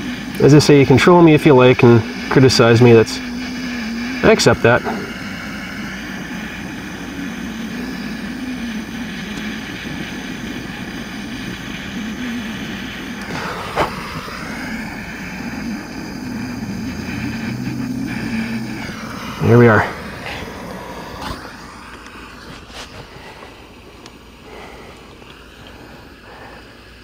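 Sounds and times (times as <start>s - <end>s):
gas torch flame rushing: 0.0s - 27.0s.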